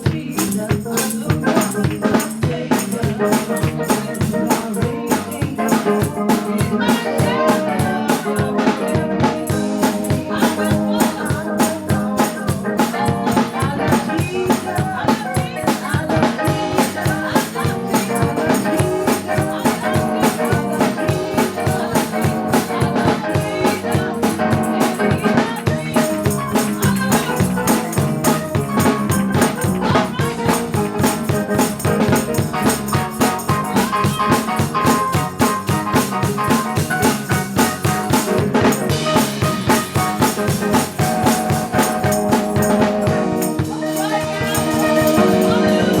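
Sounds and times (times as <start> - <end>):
live gospel praise music: 0.0 - 46.0.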